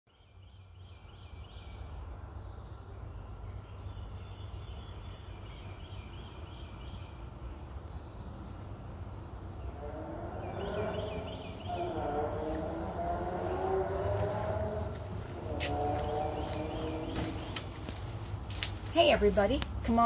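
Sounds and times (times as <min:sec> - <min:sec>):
songbird chirping: 0:00.1 - 0:20.0
steady low rumble: 0:01.8 - 0:20.0.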